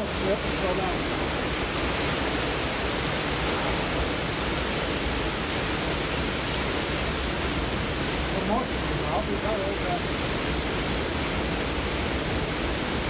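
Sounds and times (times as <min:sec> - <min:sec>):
driving rain: 0:00.0 - 0:13.0
strong wind: 0:00.0 - 0:13.0.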